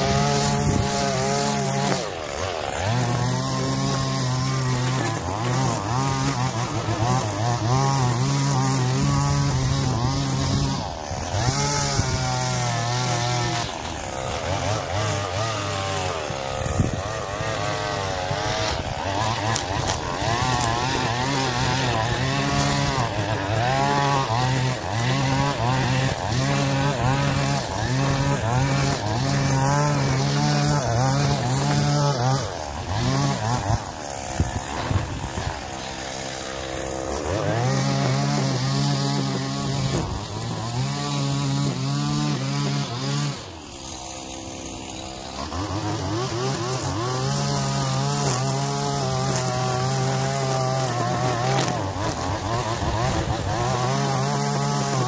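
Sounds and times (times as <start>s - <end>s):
string trimmer engine revving: 0.0s - 55.0s.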